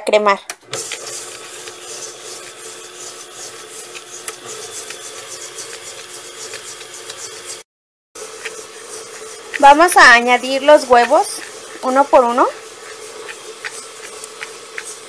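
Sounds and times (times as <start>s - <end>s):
stand mixer motor hum: 0.6s - 7.6s, 8.2s - 15.0s
whisk clicking in bowl: 0.7s - 7.6s, 8.2s - 15.0s.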